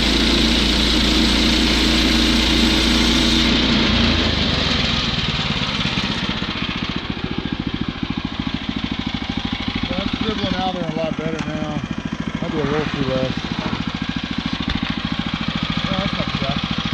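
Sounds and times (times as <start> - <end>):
small gas engine running: 0.0 - 16.9.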